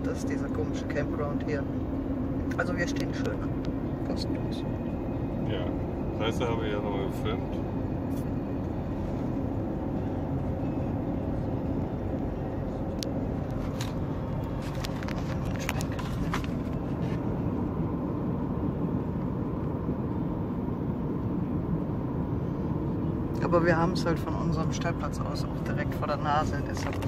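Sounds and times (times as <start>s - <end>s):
vehicle engine and road noise: 0.0s - 27.0s.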